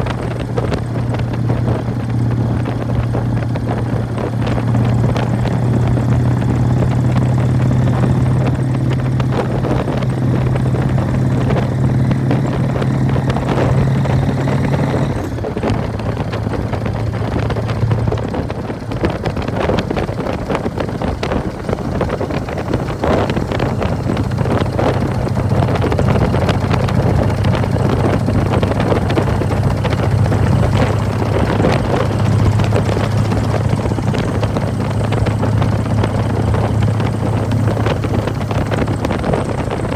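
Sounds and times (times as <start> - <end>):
motorcycle exhaust note: 0.0 - 39.9
primary drive rattle: 0.0 - 39.9.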